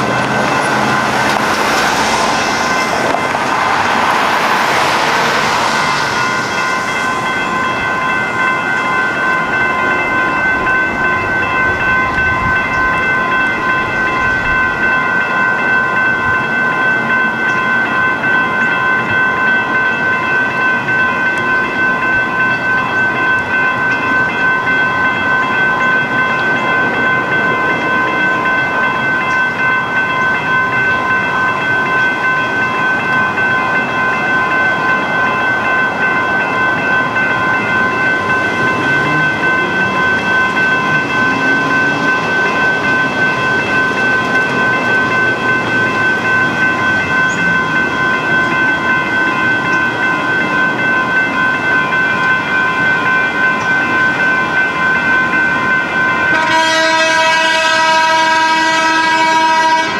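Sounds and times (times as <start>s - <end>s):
railroad crossing bells ringing: 0.0s - 59.9s.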